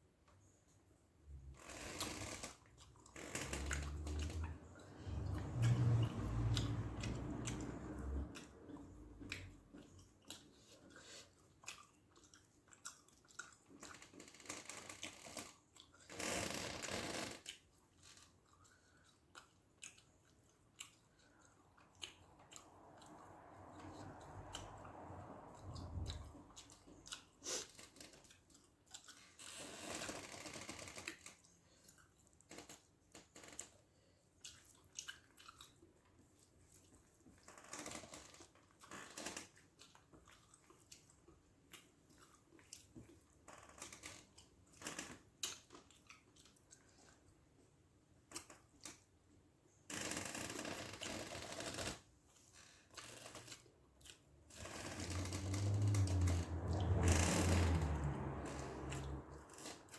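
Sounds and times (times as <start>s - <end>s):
person chewing with wet smacks: 2.6s - 16.2s, 17.5s - 30.0s, 31.0s - 49.9s, 52.2s - 57.1s.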